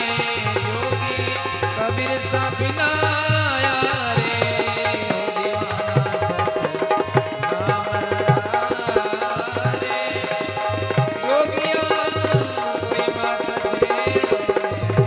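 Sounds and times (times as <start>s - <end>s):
tabla playing fast rhythm: 0.0s - 15.0s.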